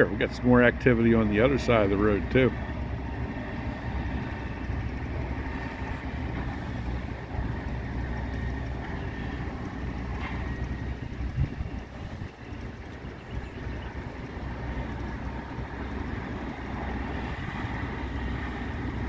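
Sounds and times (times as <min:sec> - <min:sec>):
vehicle engines rumbling: 0:00.0 - 0:19.0.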